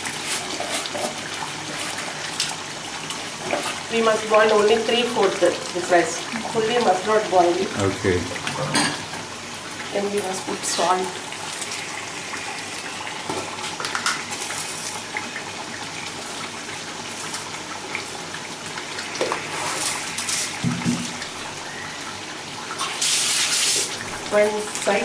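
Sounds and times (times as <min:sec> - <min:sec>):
pot of rice boiling: 0:00.0 - 0:25.0.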